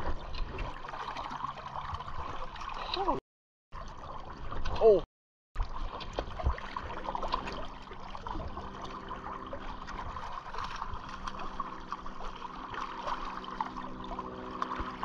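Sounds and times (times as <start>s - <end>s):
river flowing and gurgling: 0.0s - 3.2s, 5.6s - 15.0s.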